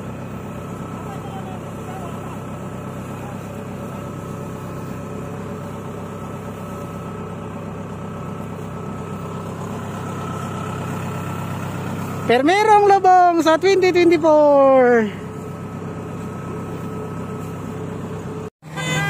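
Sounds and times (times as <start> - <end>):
harvester engine running: 0.0 - 19.0.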